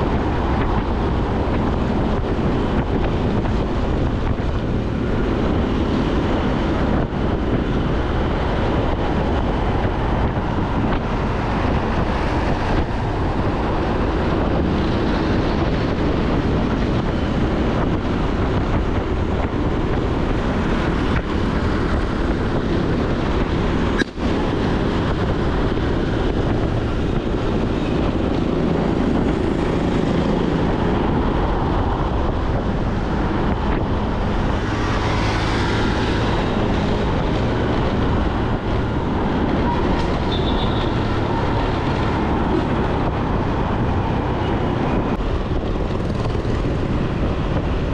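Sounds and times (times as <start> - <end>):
road and engine noise: 0.0 - 47.9
wind buffeting microphone: 0.0 - 47.9.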